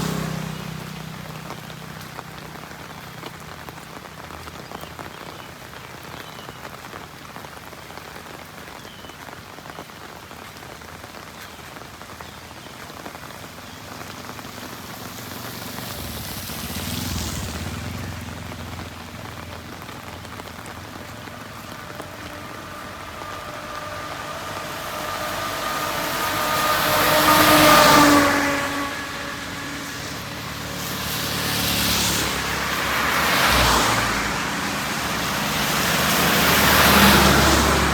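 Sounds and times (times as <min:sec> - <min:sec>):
heavy rain falling: 0:00.0 - 0:37.9
vehicle passing on wet road: 0:00.0 - 0:37.9.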